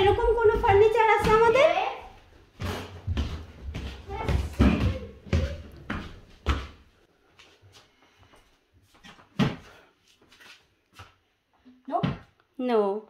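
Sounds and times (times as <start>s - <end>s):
footsteps on a staircase: 0.0s - 11.2s, 11.9s - 12.4s.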